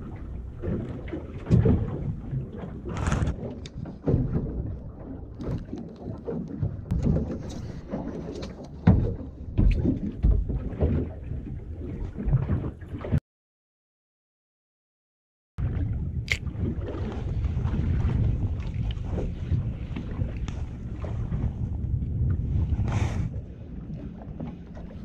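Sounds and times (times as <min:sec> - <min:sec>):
low wind rumble on microphone: 0:00.0 - 0:13.2, 0:15.6 - 0:25.0.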